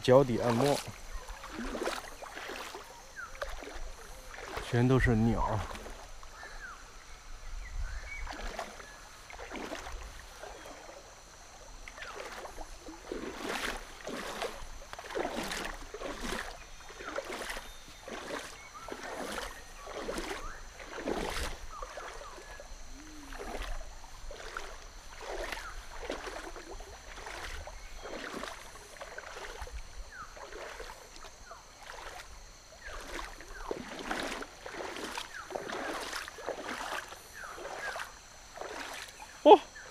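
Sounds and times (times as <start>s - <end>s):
feet splashing through water: 0.0s - 39.9s.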